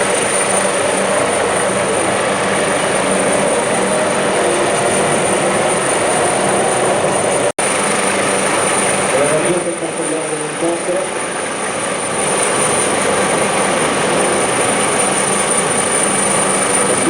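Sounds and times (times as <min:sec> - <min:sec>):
helicopter hovering: 0:00.0 - 0:17.0.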